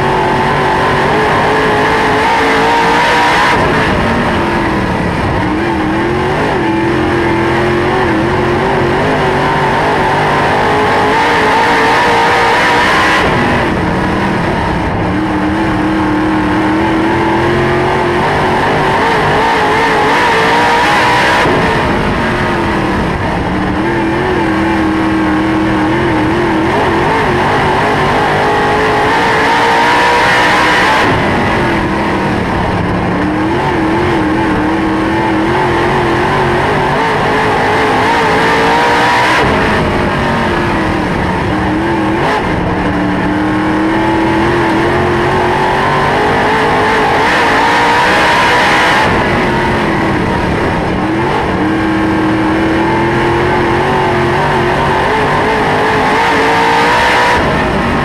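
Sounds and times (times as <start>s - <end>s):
race car engine: 0.0s - 58.0s.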